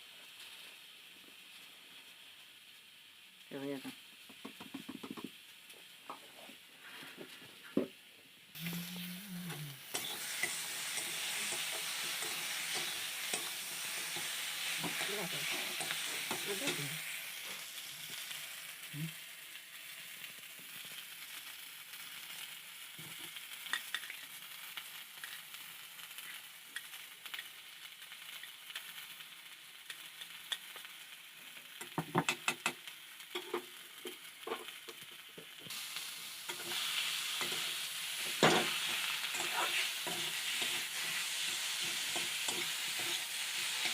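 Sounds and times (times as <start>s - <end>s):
food sizzling in oil: 0.0s - 43.9s.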